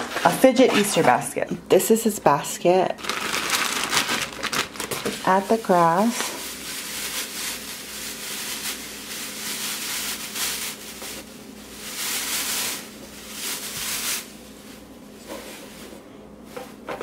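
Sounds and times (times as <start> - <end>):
shredded paper grass rustling: 3.0 - 16.8.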